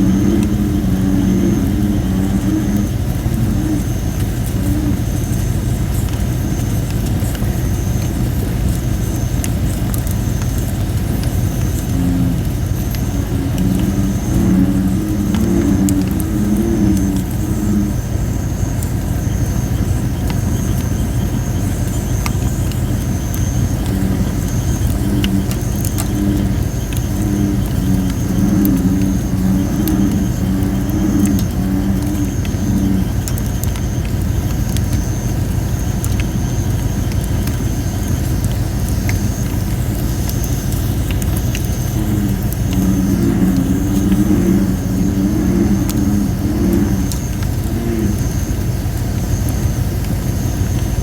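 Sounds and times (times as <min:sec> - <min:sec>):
bullfrogs calling: 0:00.0 - 0:51.0
campfire crackling and popping: 0:00.0 - 0:51.0
low rumble: 0:00.0 - 0:51.0.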